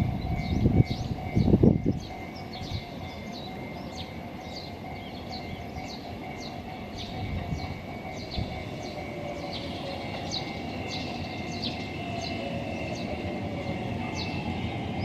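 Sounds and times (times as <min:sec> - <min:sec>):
distant electric train hum: 0:00.0 - 0:15.0
small birds chirping: 0:00.2 - 0:15.0.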